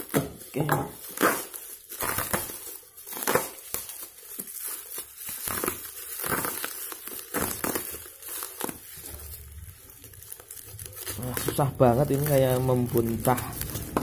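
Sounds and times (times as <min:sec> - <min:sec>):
bubble wrap crinkling and tearing: 0:00.0 - 0:14.0.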